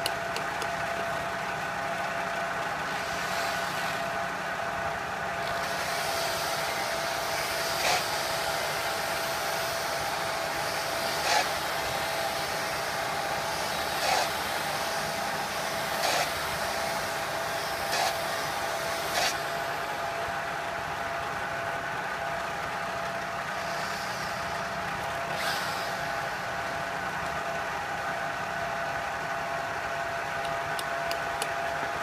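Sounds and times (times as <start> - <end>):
belt sander running: 0.0 - 28.0.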